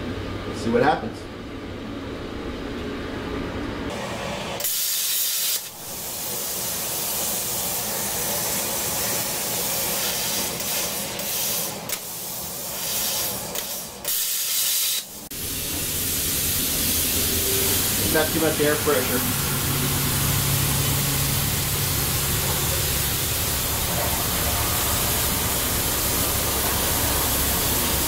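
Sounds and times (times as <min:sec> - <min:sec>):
plasma cutter torch hissing: 0:04.0 - 0:28.0.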